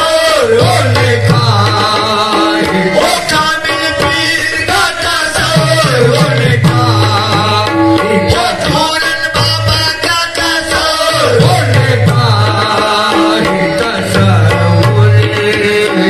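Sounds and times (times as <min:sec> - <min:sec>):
harmonium: 0:00.0 - 0:16.0
tabla playing: 0:00.0 - 0:16.0.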